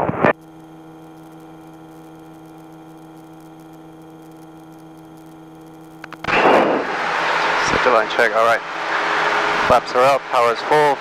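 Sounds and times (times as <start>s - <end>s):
muffled aircraft engine and propeller: 0.0s - 11.0s.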